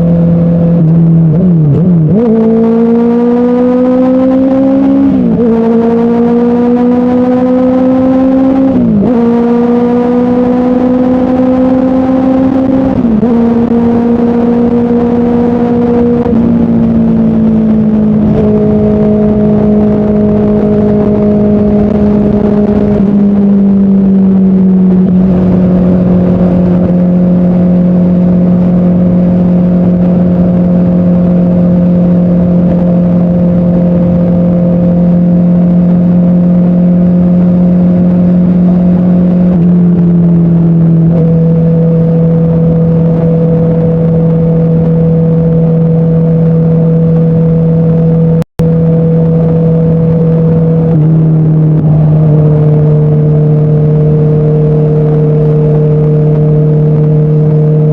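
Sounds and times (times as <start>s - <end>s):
motorcycle engine cruising: 0.0s - 57.9s
wind rush: 1.0s - 57.9s.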